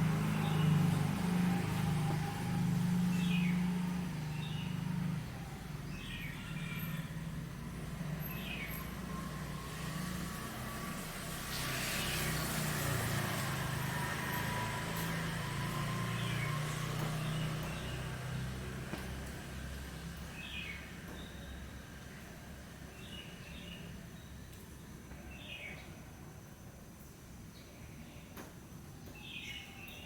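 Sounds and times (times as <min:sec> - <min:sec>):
vehicle traffic rumble: 0:00.0 - 0:25.7.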